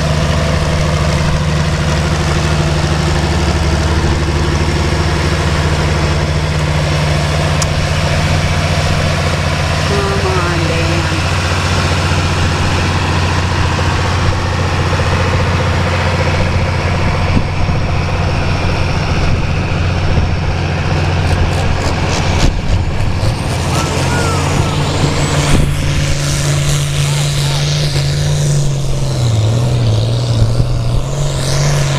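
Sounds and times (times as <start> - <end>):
diesel tractor engine under load: 0.0 - 31.9.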